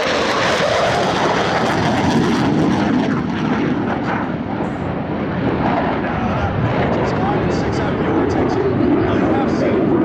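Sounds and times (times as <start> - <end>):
jet roaring past: 0.0 - 10.0.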